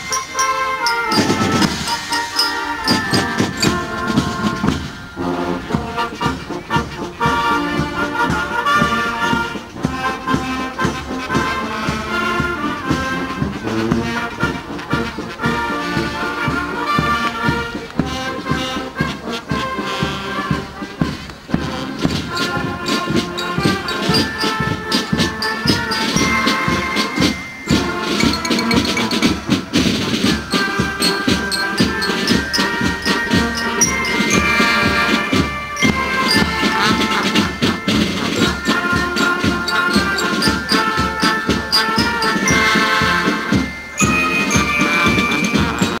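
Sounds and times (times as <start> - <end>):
marching brass band: 0.0 - 46.0
steady drum beat: 0.0 - 46.0.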